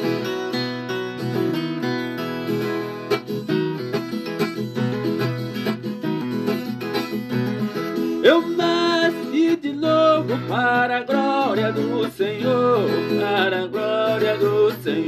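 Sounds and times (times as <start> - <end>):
plucked and strummed folk guitar: 0.0 - 15.0.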